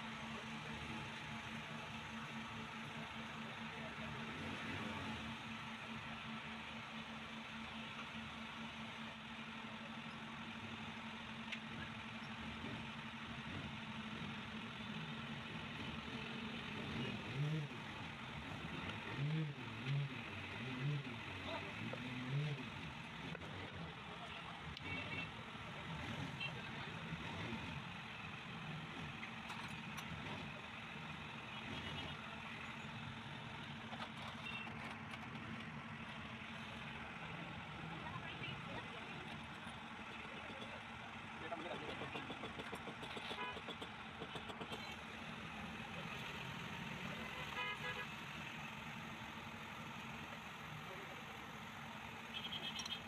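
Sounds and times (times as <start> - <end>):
engine idling drone: 0.0 - 53.0.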